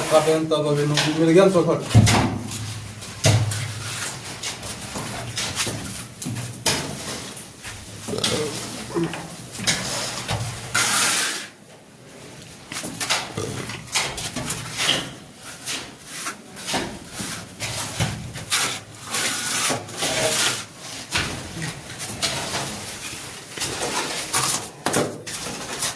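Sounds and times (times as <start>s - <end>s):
plastering tools scraping wall: 0.0s - 7.5s, 9.6s - 11.6s, 12.8s - 25.9s.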